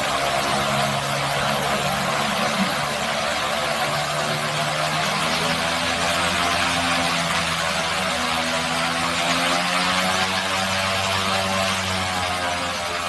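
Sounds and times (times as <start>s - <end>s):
turboprop engine droning: 0.0s - 13.0s.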